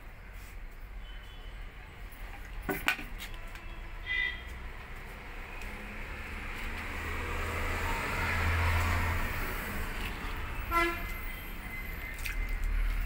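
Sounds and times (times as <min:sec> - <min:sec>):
motor vehicle rumble: 0:01.8 - 0:13.0.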